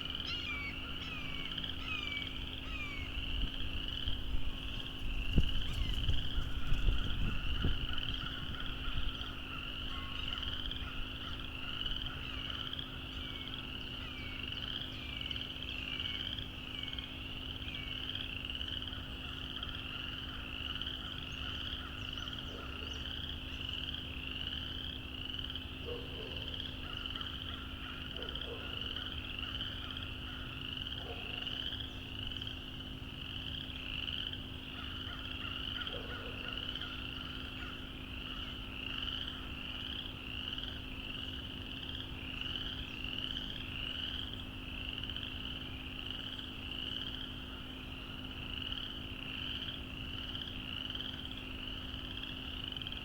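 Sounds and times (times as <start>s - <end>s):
frogs chorus: 0.0s - 53.0s.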